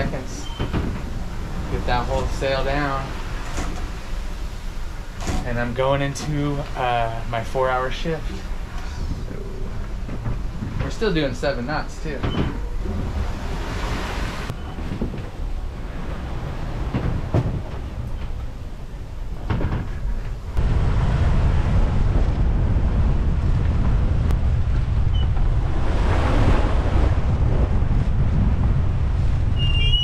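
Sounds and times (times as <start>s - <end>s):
water rushing past hull: 0.0s - 10.8s, 12.6s - 19.4s, 20.4s - 30.0s
wind rumble on microphone: 0.0s - 30.0s.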